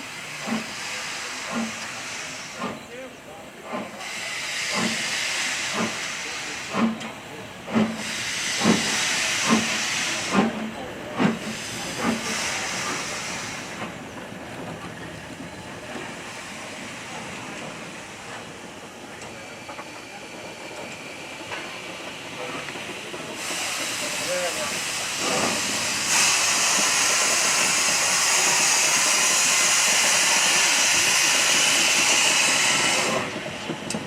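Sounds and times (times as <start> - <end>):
steam hissing: 0.0 - 34.0
steam locomotive exhaust beats: 0.0 - 34.0
locomotive rumble: 0.1 - 34.0.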